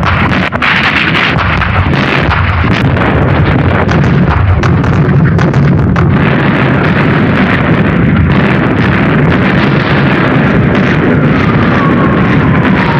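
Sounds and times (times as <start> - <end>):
continuous rumbling bombardment: 0.0 - 12.9
sharp cracks: 0.0 - 12.9.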